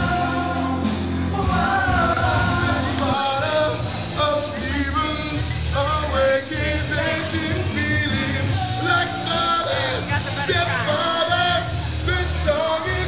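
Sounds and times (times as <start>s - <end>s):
backing music: 0.0s - 13.0s
man singing into microphone: 0.0s - 13.0s.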